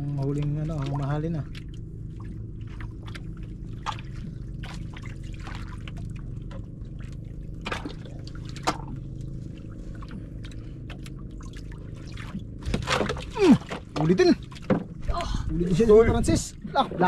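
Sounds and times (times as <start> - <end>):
steady low hum: 0.0 - 17.0
water splashing and dripping: 0.1 - 15.6.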